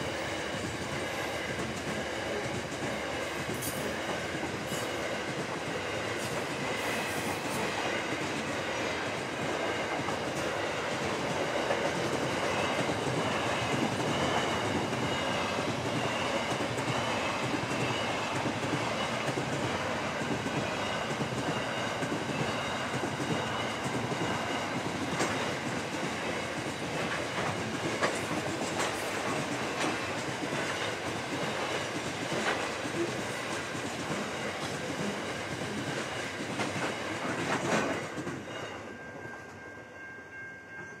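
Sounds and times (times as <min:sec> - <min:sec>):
train wheels rumbling on rail: 0:00.0 - 0:39.7.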